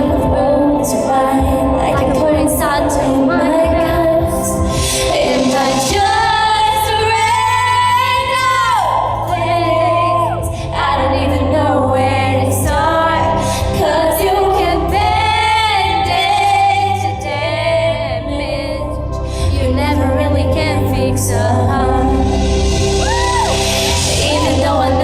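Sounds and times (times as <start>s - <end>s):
woman singing a pop ballad: 0.0s - 25.0s.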